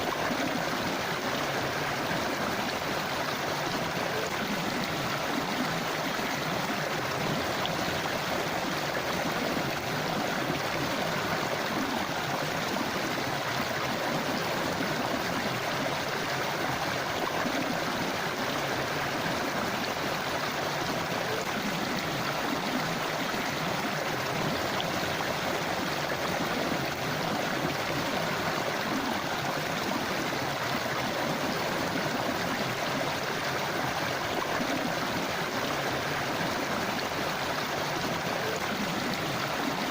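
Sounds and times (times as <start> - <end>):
stream water rushing and gurgling: 0.0 - 39.9.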